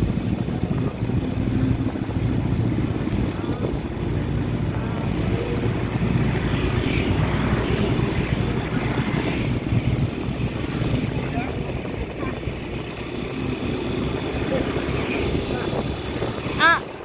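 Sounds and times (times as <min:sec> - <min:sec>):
cars and motorcycles passing: 0:00.0 - 0:17.0
engine and road rumble: 0:00.0 - 0:17.0.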